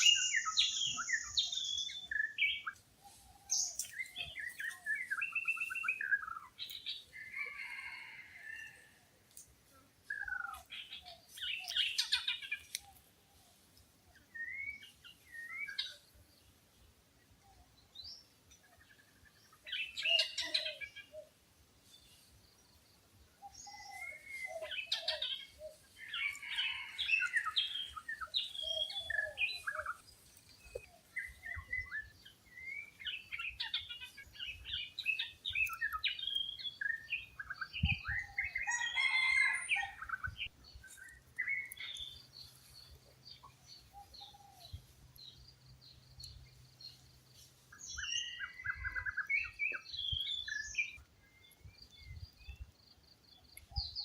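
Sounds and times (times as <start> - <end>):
wild birds chirping and whistling: 0.0 - 9.0, 10.0 - 54.0.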